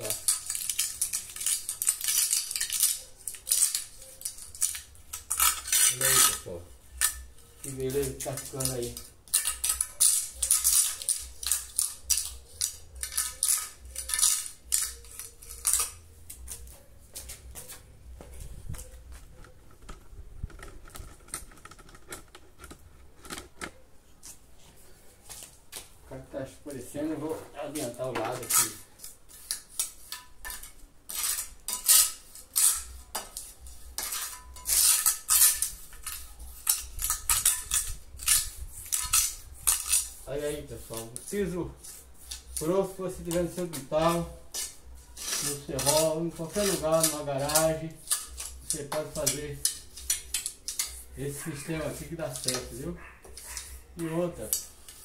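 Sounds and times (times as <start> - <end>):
steel trowel scraping cement: 0.0 - 16.8, 27.7 - 55.0.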